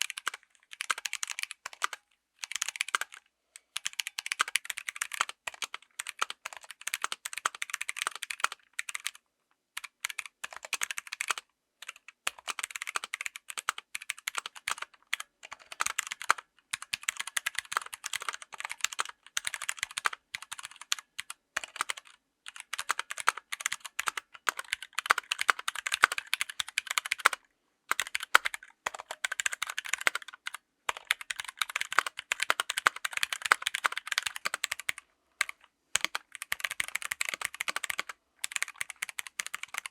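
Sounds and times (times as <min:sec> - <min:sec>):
mechanical keyboard typing: 0:00.0 - 0:09.2, 0:09.8 - 0:39.9.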